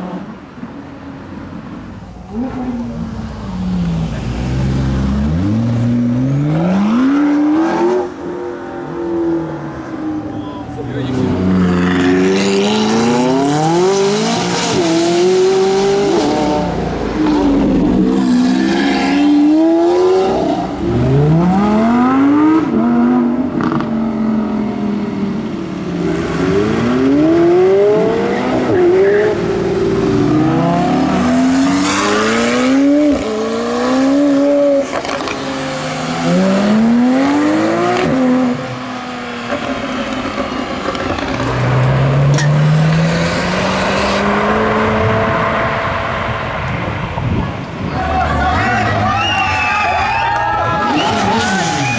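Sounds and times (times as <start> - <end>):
sports cars accelerating past: 1.6 - 10.2, 11.1 - 47.3.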